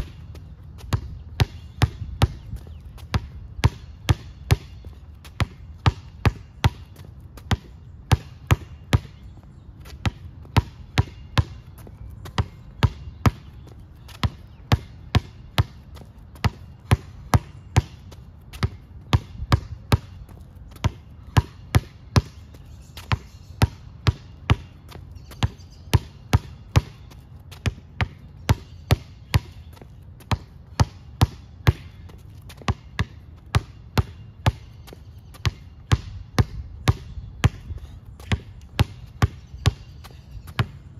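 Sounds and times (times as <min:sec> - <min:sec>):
basketball bouncing on asphalt: 0:00.0 - 0:40.9.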